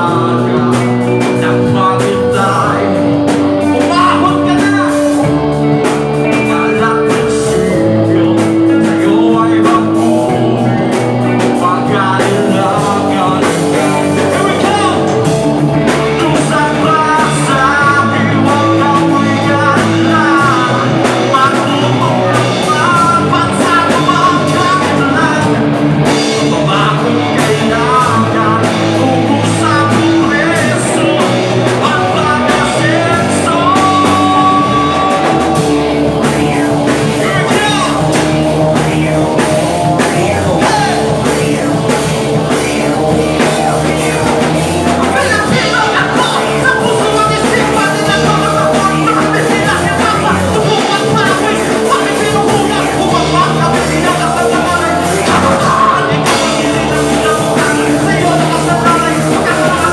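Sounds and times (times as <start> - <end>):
lead vocal melody: 0.0 - 59.9
live rock band playing: 0.0 - 59.9.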